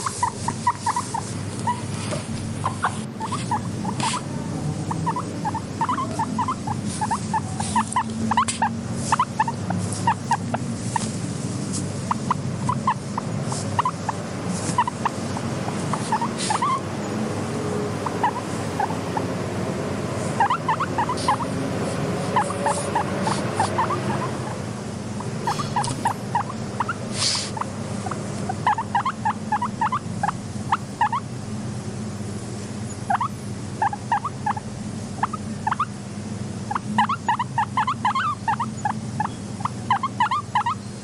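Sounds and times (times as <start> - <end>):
guinea pigs squeaking: 0.0 - 31.3, 32.9 - 36.0, 36.6 - 41.0
steady low hum: 0.0 - 41.0.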